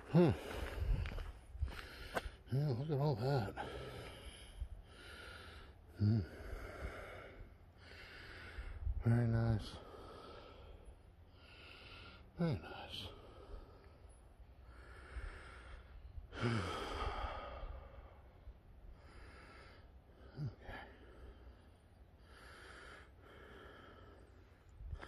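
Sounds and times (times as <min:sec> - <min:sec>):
man breathing heavily: 0:00.0 - 0:02.5, 0:03.2 - 0:25.0.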